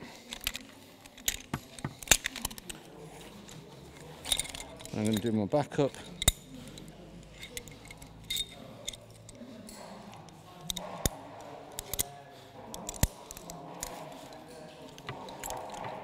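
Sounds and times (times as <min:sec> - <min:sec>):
metal climbing hardware clicking: 0:00.3 - 0:02.8, 0:04.0 - 0:16.0.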